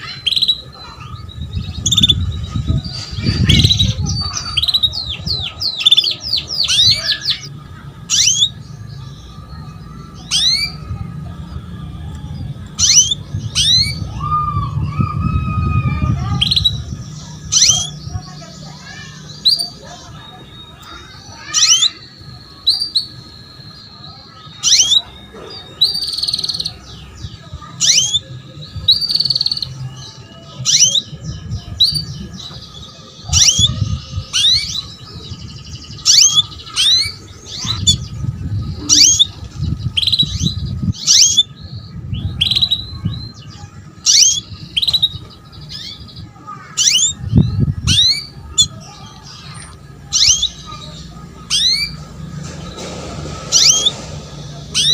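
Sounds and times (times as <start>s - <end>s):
canary chirping calls: 0.0s - 54.9s.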